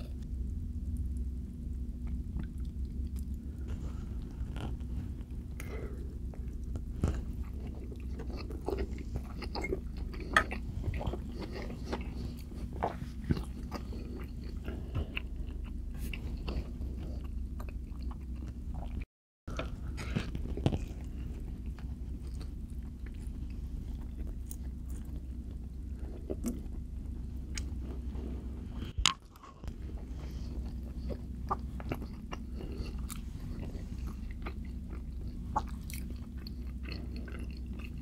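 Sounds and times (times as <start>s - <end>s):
steady low hum: 0.0s - 38.0s
person chewing food: 1.0s - 38.0s.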